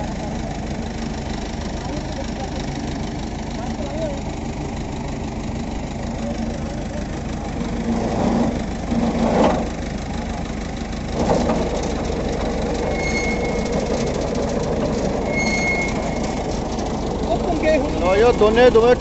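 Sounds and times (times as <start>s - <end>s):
tractor diesel engine rumbling: 0.0s - 19.0s.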